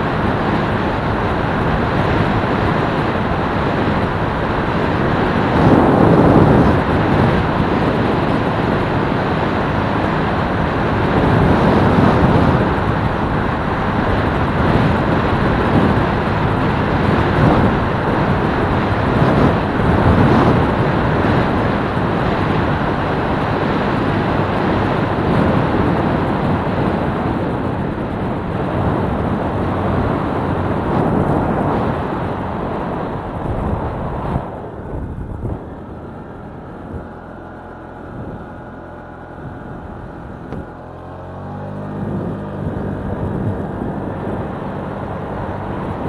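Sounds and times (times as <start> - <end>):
motorcycle engine running: 0.0 - 46.0
wind rushing over microphone: 0.0 - 46.0.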